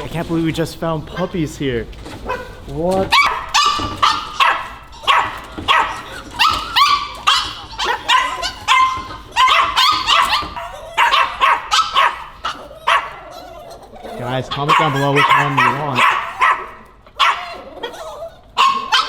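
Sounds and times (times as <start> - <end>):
puppies yapping: 0.0 - 19.0.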